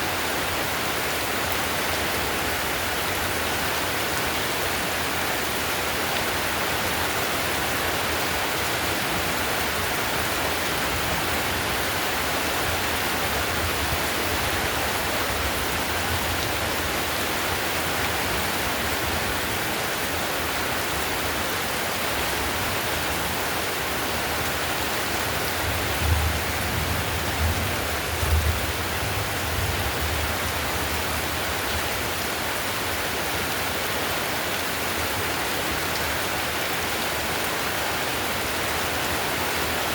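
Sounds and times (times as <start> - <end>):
heavy rain on a tile roof: 0.0 - 39.9.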